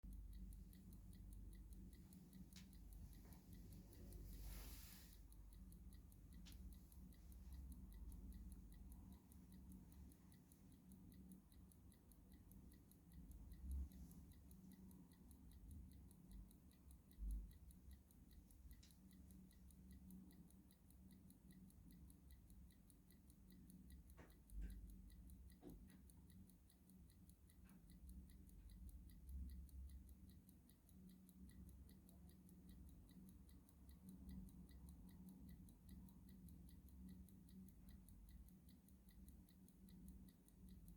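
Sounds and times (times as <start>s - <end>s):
clock ticking faintly: 0.0s - 40.9s.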